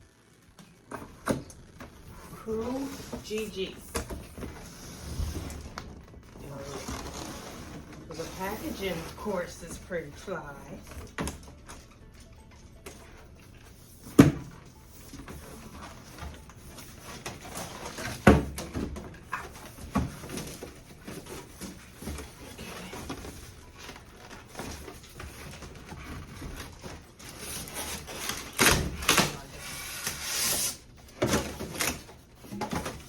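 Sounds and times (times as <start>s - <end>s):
cardboard packaging scraping and rustling: 2.0s - 10.3s, 14.8s - 33.0s.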